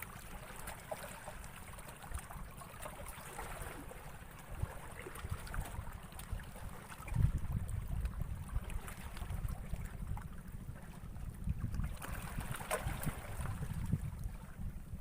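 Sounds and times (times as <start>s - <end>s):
water lapping and trickling: 0.0s - 15.0s
wind rumbling on microphone: 1.1s - 15.0s.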